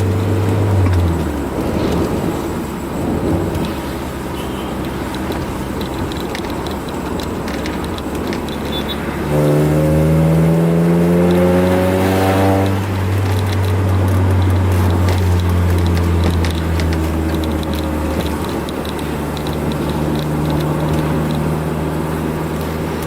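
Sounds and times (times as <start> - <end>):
car engine with leaking exhaust: 0.0 - 23.0.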